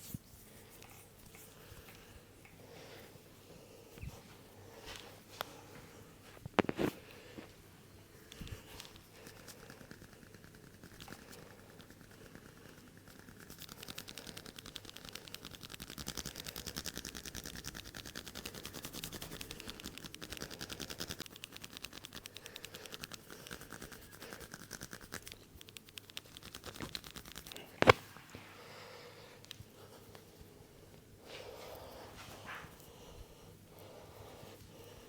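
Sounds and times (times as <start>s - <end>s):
hands rustling hair: 0.0s - 10.2s, 13.4s - 35.0s.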